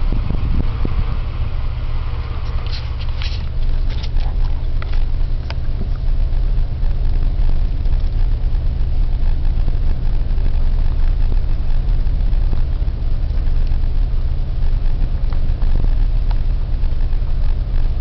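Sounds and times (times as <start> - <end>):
car engine rumble: 0.0 - 18.0
road noise inside car: 0.0 - 18.0.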